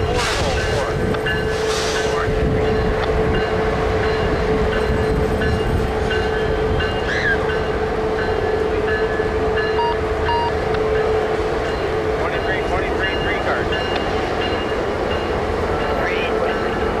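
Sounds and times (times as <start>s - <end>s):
freight cars rumbling: 0.0s - 17.0s.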